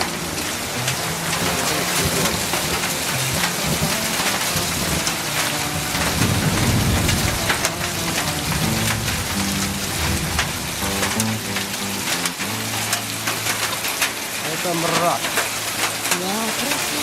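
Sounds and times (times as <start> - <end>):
hailstones striking: 0.0 - 17.0
heavy rain: 0.0 - 17.0.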